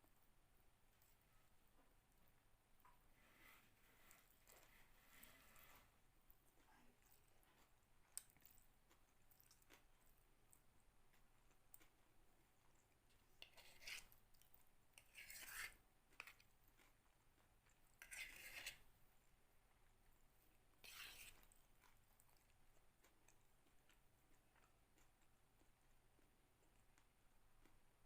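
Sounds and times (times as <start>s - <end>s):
faint crunching of chewing: 0.0s - 28.0s.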